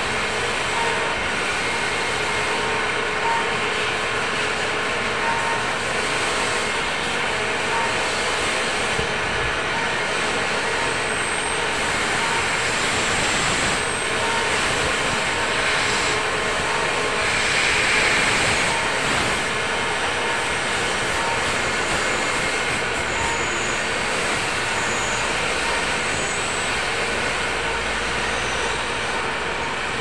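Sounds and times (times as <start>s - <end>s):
running machinery din: 0.0s - 30.0s.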